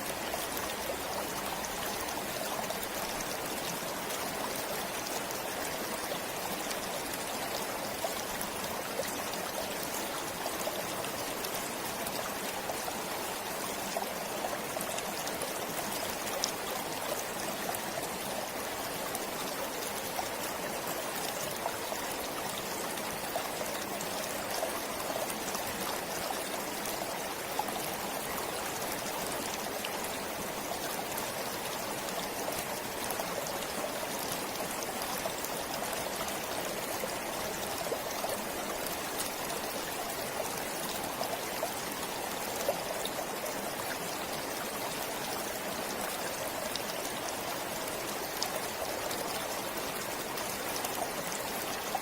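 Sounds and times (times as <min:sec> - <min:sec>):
stream flowing over stones: 0:00.0 - 0:52.0.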